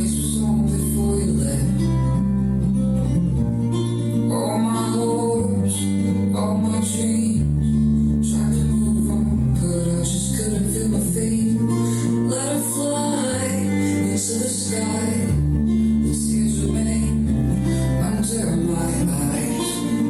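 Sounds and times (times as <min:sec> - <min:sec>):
song with guitar and heavy bass: 0:00.0 - 0:20.0.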